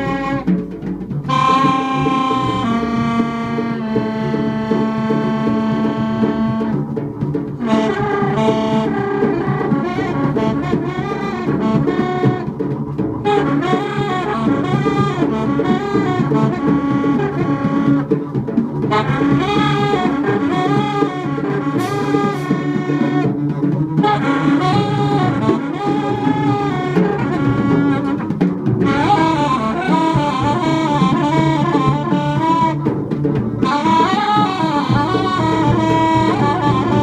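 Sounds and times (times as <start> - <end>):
reed horn playing runs: 0.0 - 0.6, 1.2 - 37.0
double bass: 0.0 - 37.0
drums: 0.0 - 37.0.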